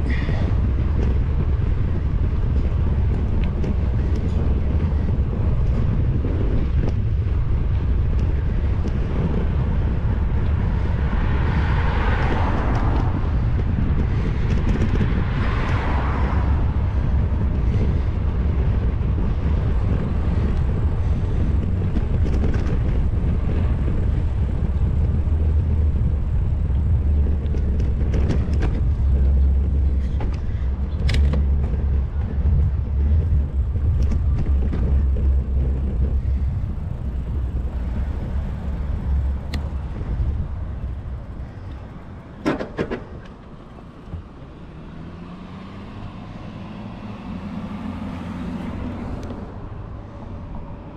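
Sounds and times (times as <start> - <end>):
vehicles passing: 0.0 - 50.9
wind rumble on microphone: 0.0 - 50.9.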